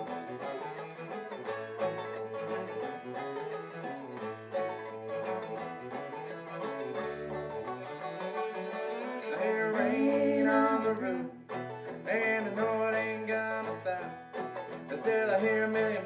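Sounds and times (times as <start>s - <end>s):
string band playing: 0.0s - 16.0s.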